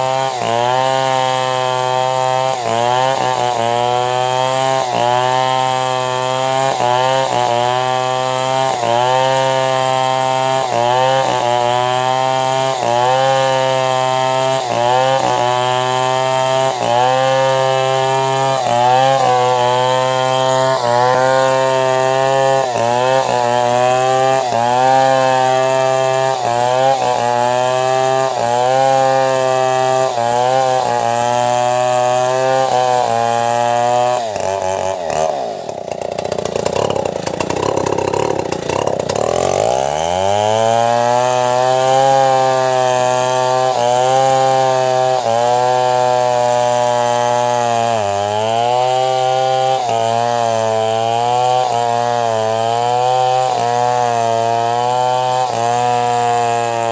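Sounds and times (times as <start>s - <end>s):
chainsaw cutting timber: 0.0s - 56.9s.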